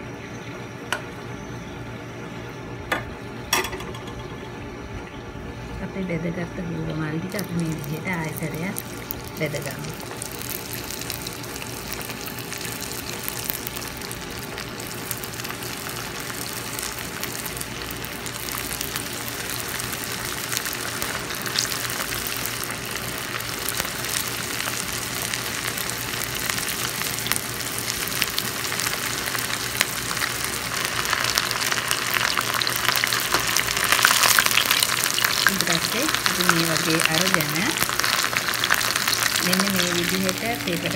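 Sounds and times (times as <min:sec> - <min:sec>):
food deep-frying in oil: 0:03.6 - 0:40.9.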